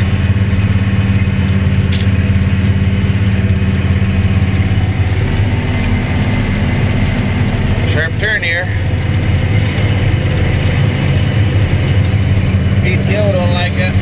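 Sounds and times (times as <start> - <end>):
combine harvester running: 0.0 - 14.0
tractor engine droning: 0.0 - 14.0.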